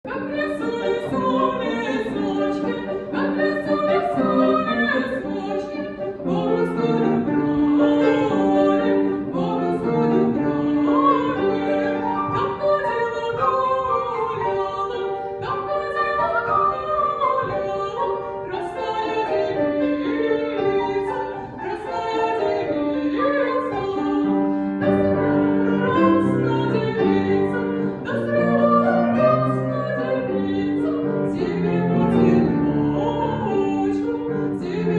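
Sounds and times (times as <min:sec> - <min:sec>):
choral singing: 0:00.0 - 0:34.9.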